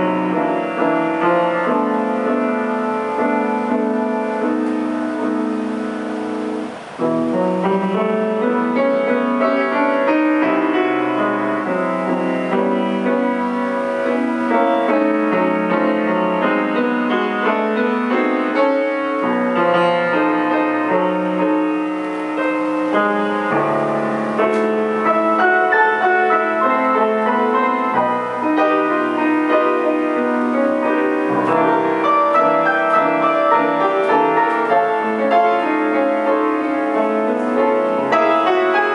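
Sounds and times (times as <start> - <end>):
solo grand piano playing: 0.0 - 38.9.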